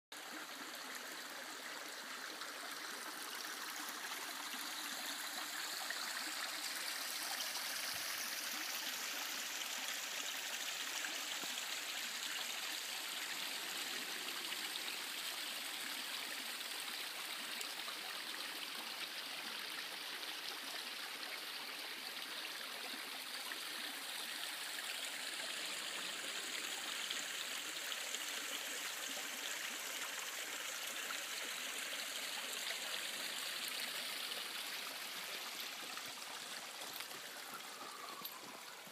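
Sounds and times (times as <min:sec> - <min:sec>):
stream flowing over rocks: 0:00.2 - 0:38.9.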